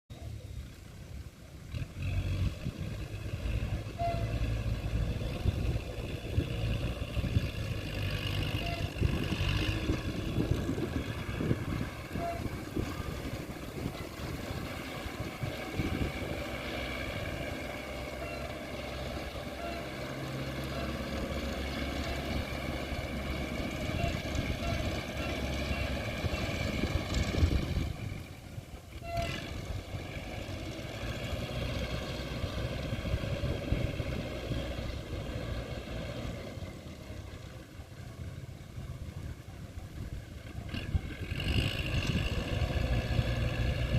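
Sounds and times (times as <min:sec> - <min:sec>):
tractor engine running: 0:00.1 - 0:43.9.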